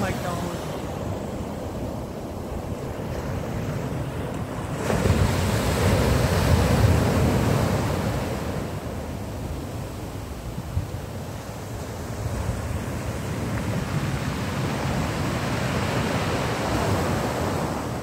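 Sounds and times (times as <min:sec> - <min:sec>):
surf washing on beach: 0:00.0 - 0:18.0.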